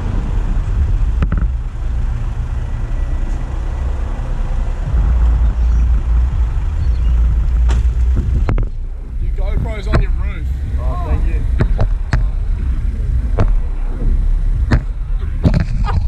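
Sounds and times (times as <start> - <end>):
wind and road rumble: 0.0 - 16.0.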